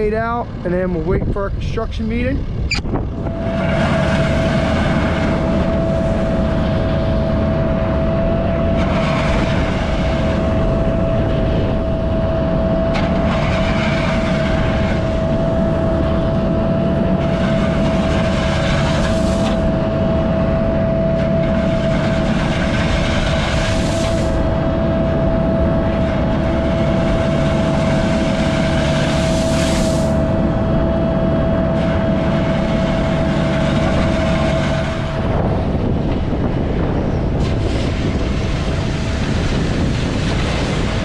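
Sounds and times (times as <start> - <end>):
diesel engine running: 0.0 - 41.0
high whine: 0.0 - 41.0.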